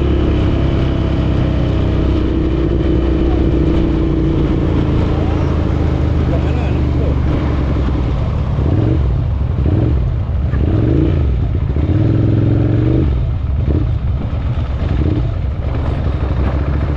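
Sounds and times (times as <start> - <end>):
motorcycle engines revving: 0.0 - 16.9.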